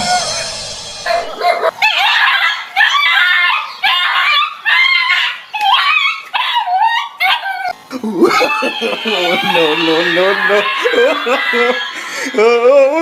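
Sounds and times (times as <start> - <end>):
dog barking and yelping: 1.0 - 12.0.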